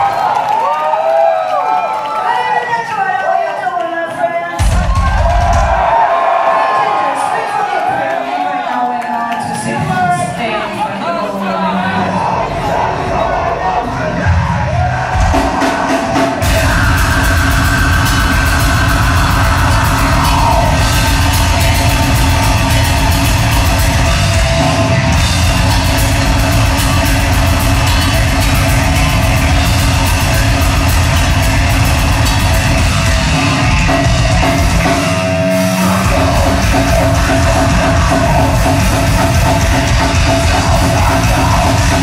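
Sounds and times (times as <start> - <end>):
heavy metal band playing live: 4.5 - 6.0, 9.0 - 42.0.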